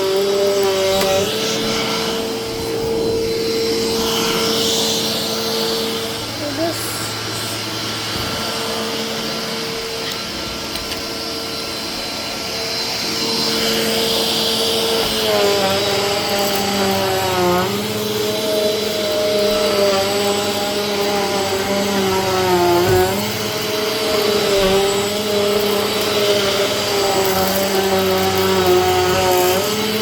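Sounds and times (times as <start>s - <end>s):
vacuum cleaner whirring: 0.0s - 30.0s.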